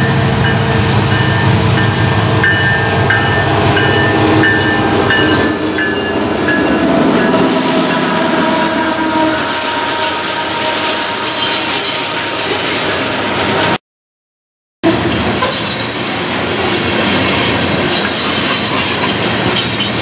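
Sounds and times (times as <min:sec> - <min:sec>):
diesel locomotives passing: 0:00.0 - 0:13.8, 0:14.8 - 0:20.0
train wheels on rails: 0:00.0 - 0:13.8, 0:14.9 - 0:20.0.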